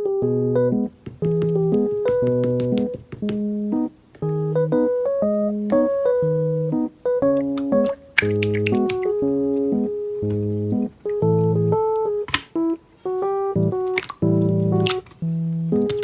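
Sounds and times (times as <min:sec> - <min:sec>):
bass line: 0:00.0 - 0:12.7, 0:13.4 - 0:15.9
bouncy electric piano music: 0:00.0 - 0:16.0.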